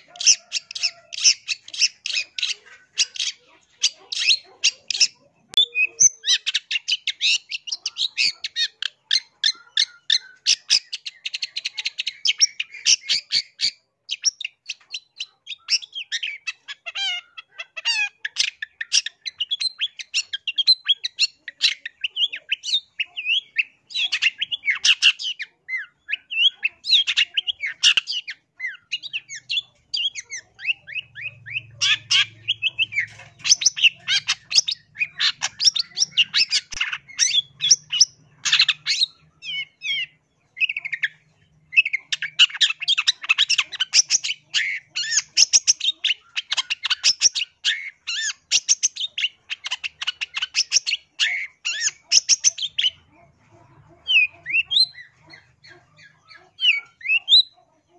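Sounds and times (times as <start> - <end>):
bird chattering song: 0.0 - 57.9.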